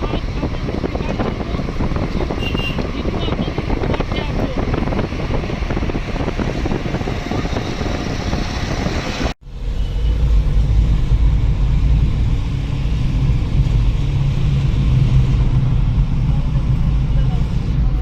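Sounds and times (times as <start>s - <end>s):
busy outdoor noise: 0.0s - 18.0s
low engine rumble: 0.0s - 18.0s.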